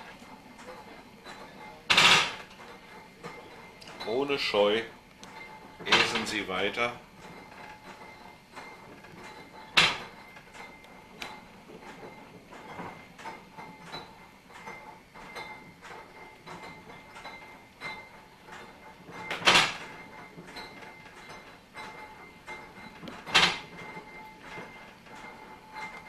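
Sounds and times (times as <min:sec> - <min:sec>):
railcar clicking and rattling: 0:00.0 - 0:26.0.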